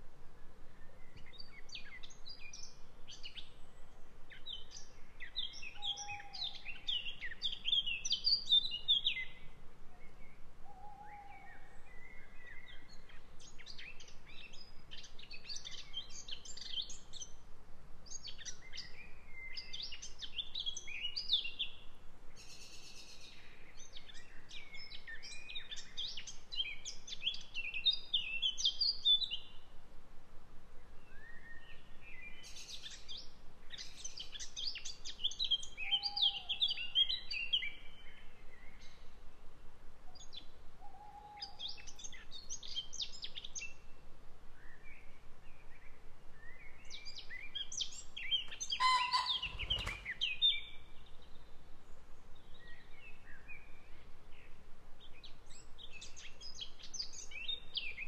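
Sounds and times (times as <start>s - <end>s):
faint steady background noise: 0.0s - 58.0s
songbirds warbling and chirping: 0.6s - 17.4s, 18.1s - 29.7s, 30.9s - 39.3s, 40.0s - 58.0s.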